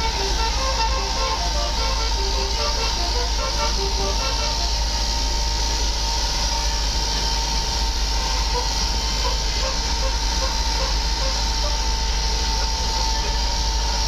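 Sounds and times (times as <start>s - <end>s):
steady high hum: 0.0s - 14.0s
vehicle road noise: 0.0s - 14.0s.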